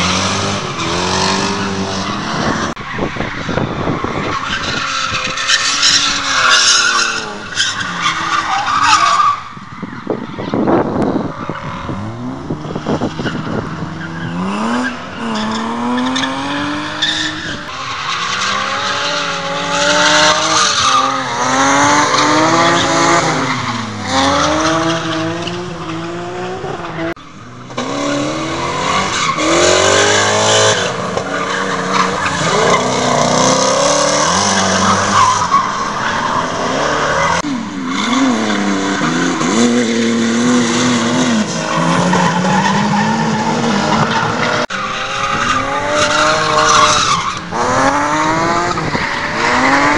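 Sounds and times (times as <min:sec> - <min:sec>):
car engines revving hard: 0:00.0 - 0:49.9
tyres squealing and sliding: 0:00.8 - 0:10.6, 0:13.1 - 0:26.0, 0:27.8 - 0:49.9.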